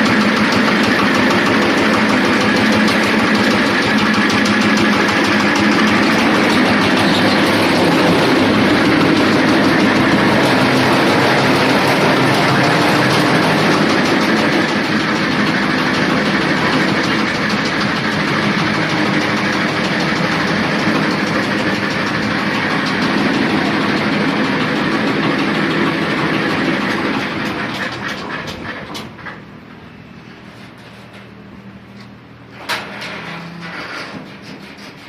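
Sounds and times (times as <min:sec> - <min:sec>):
concrete mixer diesel engine: 0:00.0 - 0:35.0.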